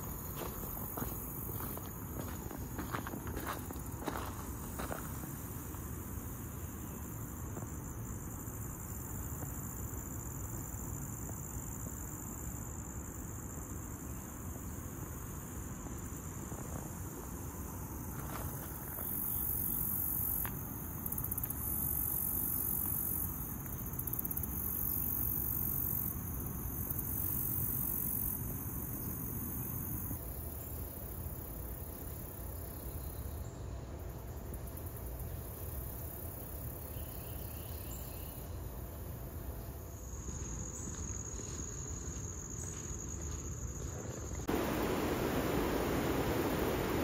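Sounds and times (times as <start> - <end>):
high buzzing insect chorus: 0.0 - 47.0
insects trilling: 0.0 - 47.0.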